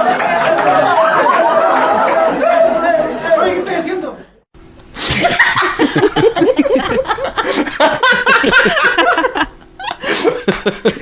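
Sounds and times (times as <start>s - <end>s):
crowd laughing: 0.0s - 3.6s, 5.0s - 11.0s.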